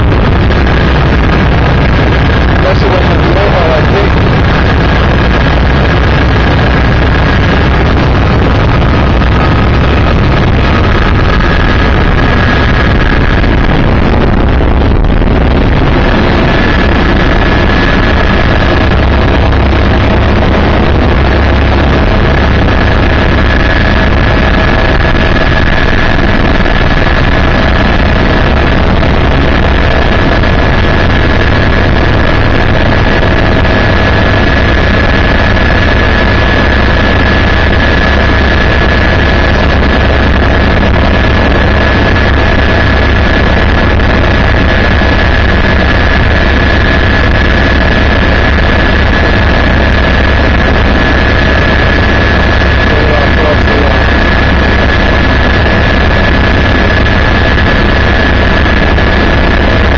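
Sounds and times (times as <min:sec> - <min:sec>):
helicopter rotor and engine drone: 0:00.0 - 0:59.9
high whine: 0:00.0 - 0:59.9.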